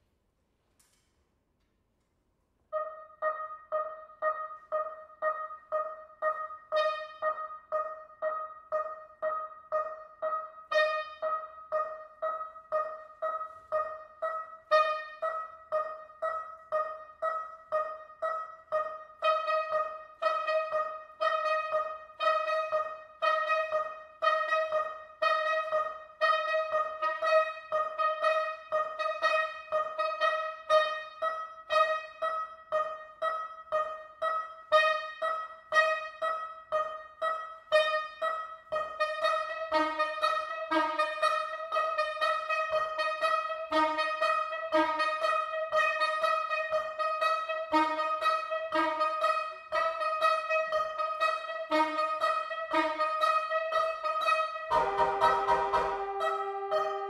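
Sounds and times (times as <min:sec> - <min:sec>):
soprano saxophones repeated notes: 0:02.6 - 0:57.0.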